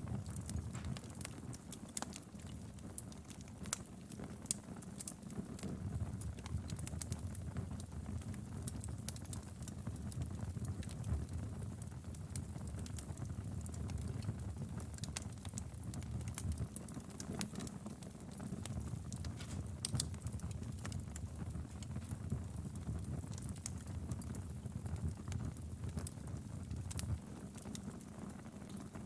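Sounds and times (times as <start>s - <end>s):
low rumble of flames: 0.0s - 29.0s
wood fire pops and snaps: 0.1s - 29.0s.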